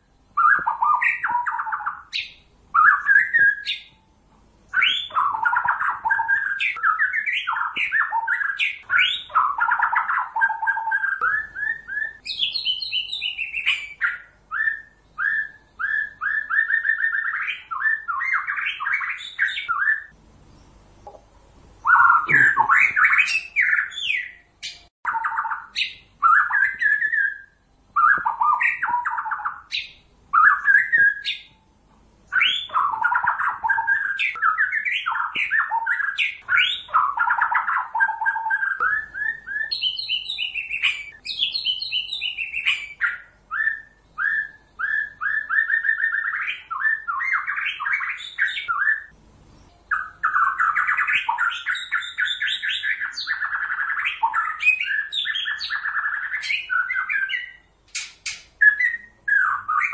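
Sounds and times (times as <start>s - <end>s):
bird singing whistled trills: 0.0s - 4.1s, 4.7s - 20.8s, 21.8s - 31.7s, 32.3s - 59.9s.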